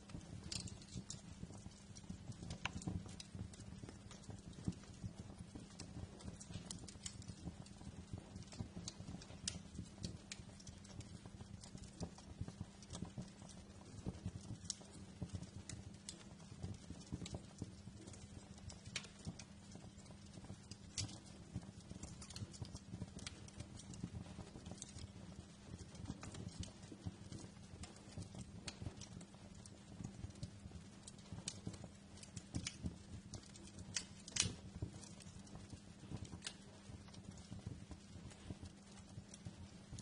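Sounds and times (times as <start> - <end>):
wood fire crackling in fireplace: 0.0 - 40.0.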